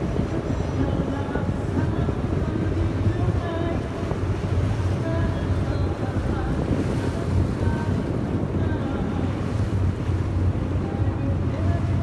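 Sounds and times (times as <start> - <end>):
boat engine rumble: 0.0 - 12.0
wind on microphone: 0.0 - 12.0.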